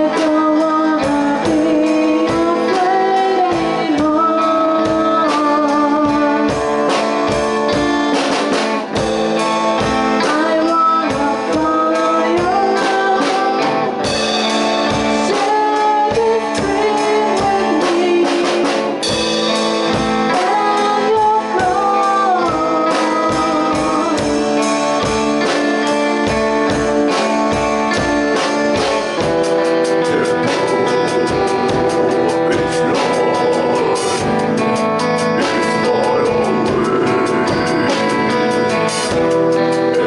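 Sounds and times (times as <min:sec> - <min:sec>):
band playing: 0:00.0 - 0:40.0
steady drum beat: 0:00.0 - 0:40.0.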